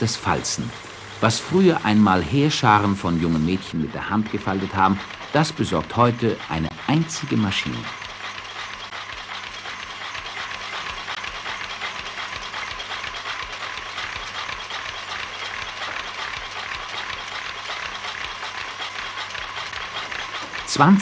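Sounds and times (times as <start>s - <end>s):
paper-folding machine clatter: 0.0s - 21.0s.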